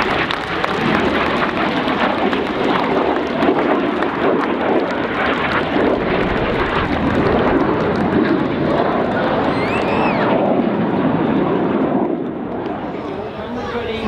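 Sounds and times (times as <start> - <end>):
jet engine flying past: 0.0 - 14.0.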